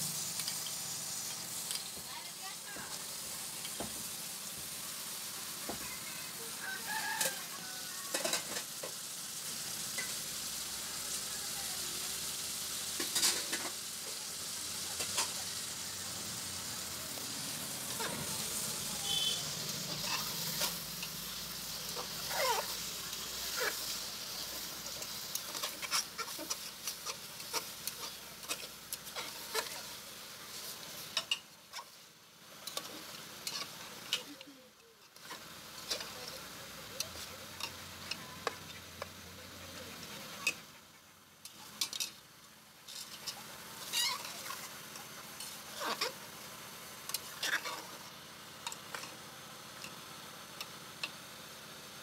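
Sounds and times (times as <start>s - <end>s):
meat sizzling in hot oil: 0.0s - 52.0s.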